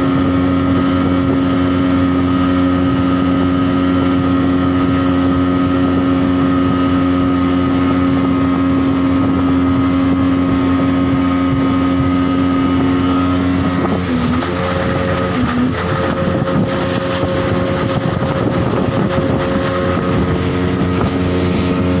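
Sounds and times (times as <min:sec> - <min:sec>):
outboard motor running: 0:00.0 - 0:22.0
wind and water noise: 0:00.0 - 0:22.0.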